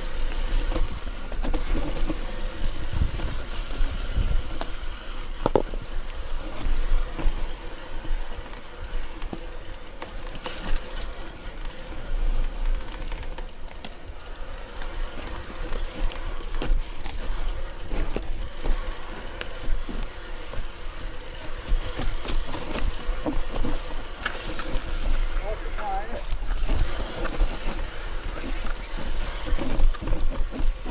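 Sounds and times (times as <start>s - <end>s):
bike frame and chain rattling: 0.0s - 30.9s
bike tyres on dirt trail: 0.0s - 30.9s.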